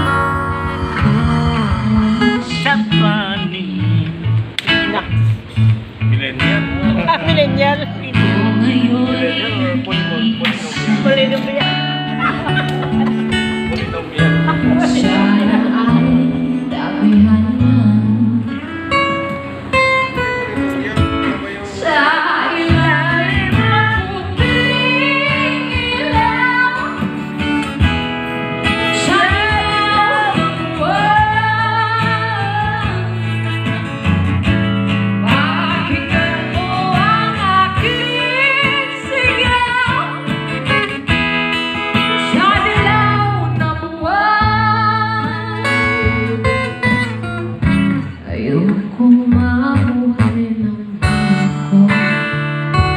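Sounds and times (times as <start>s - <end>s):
woman singing into a microphone: 0.0s - 5.2s, 6.9s - 12.6s, 14.2s - 19.4s, 21.6s - 27.9s, 28.6s - 33.5s, 35.2s - 40.9s, 42.1s - 47.3s, 47.9s - 52.9s
guitar: 0.0s - 52.9s.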